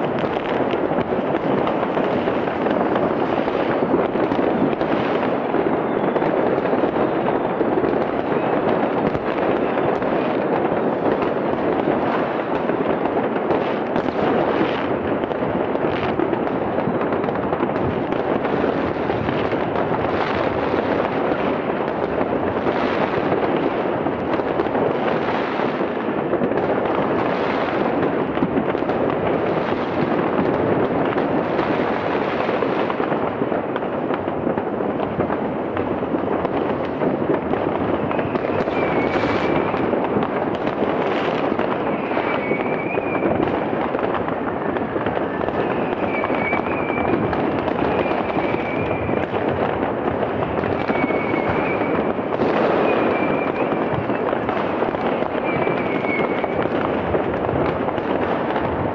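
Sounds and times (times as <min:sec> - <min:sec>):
firework whistles: 0:00.0 - 0:35.0, 0:35.8 - 0:58.9
fireworks bangs and crackle: 0:00.0 - 0:58.9.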